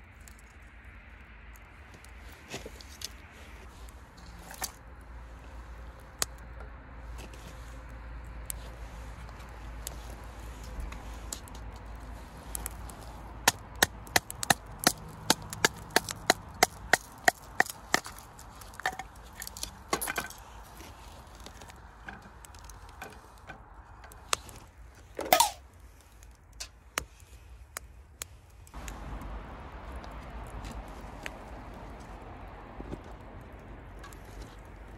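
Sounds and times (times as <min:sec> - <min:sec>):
wood cracking: 0:01.5 - 0:34.9.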